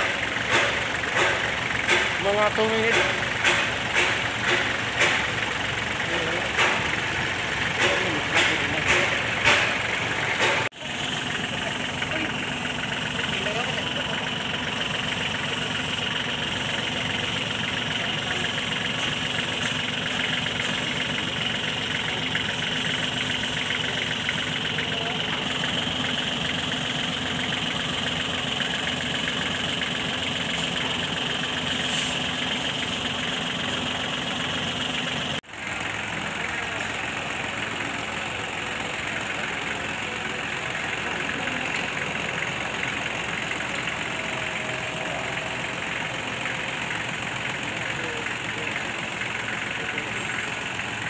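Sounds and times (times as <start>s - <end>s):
tractor diesel engine idling: 0.0s - 51.0s.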